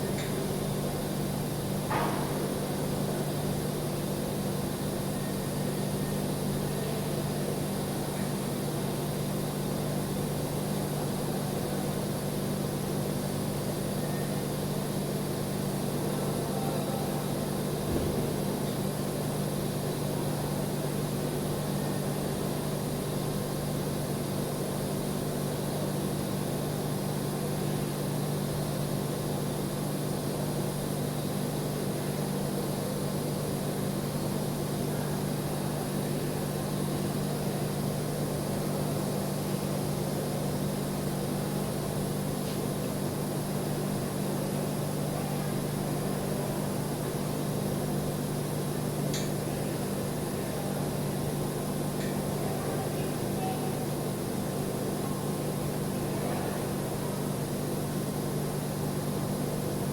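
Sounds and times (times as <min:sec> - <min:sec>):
welding equipment humming and hissing: 0:00.0 - 0:59.9.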